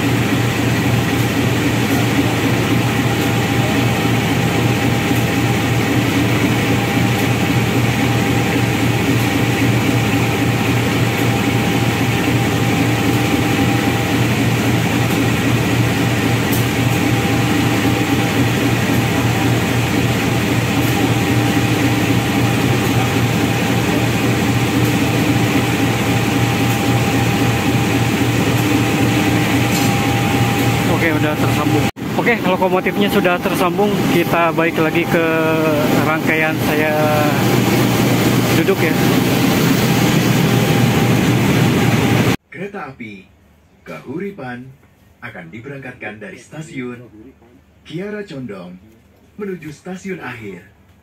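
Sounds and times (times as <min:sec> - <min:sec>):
thin steady whine: 0:00.0 - 0:42.4.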